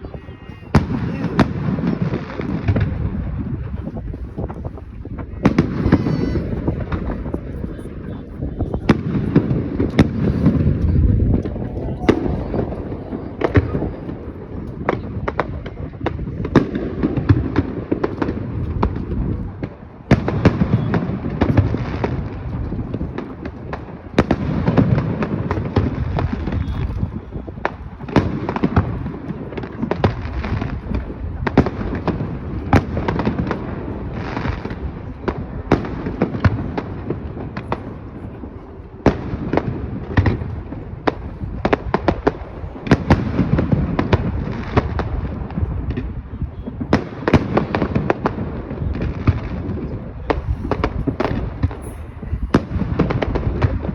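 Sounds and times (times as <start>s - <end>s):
continuous low rumble: 0.0s - 20.1s, 20.8s - 53.9s
fireworks bangs and crackling: 0.0s - 53.9s.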